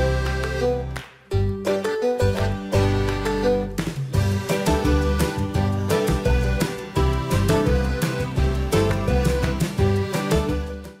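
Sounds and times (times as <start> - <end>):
background music with beat and bass: 0.0 - 11.0.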